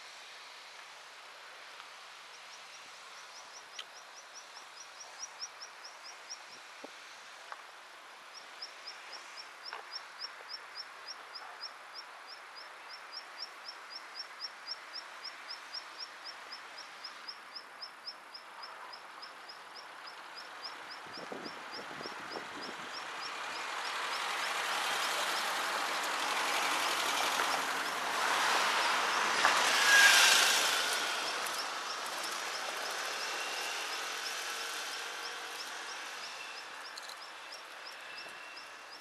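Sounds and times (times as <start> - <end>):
distant traffic hum: 0.1 - 39.0.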